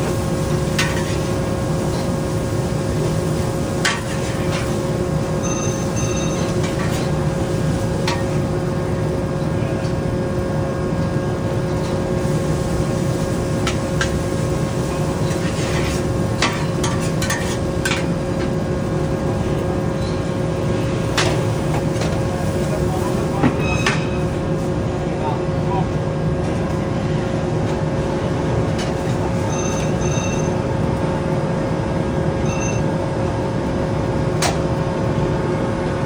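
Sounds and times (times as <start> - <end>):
wok burner roaring: 0.0 - 36.0.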